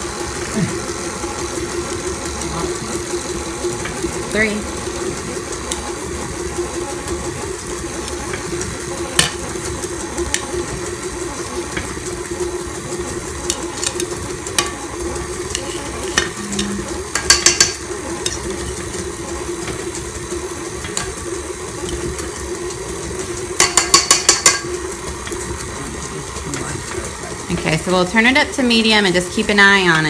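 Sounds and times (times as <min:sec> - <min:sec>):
stand mixer running: 0:00.0 - 0:30.0.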